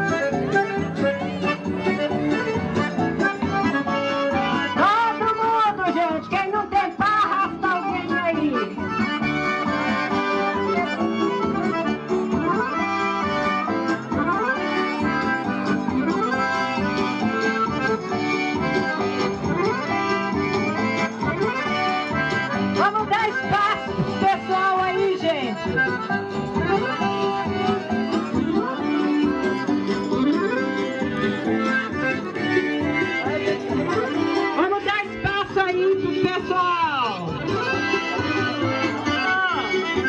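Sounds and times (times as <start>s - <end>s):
accordion dance music: 0.0s - 40.0s.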